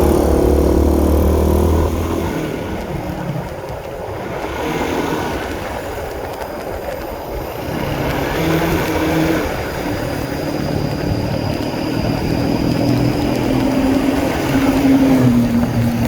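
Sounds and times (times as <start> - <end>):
motorcycle engine running: 0.0 - 16.0
road noise: 0.0 - 16.0
wind noise: 0.0 - 16.0.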